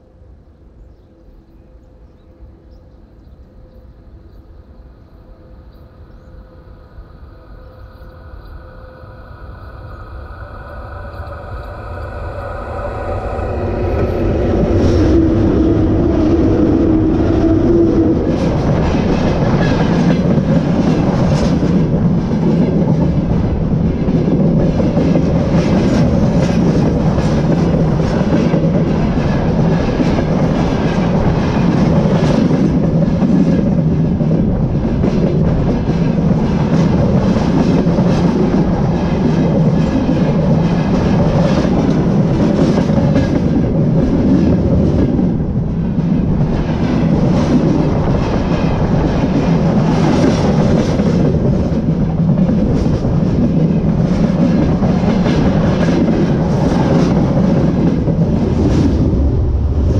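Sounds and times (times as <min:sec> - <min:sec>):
freight train rolling overhead: 0:00.0 - 0:59.9
locomotive steady tones: 0:00.0 - 0:59.9.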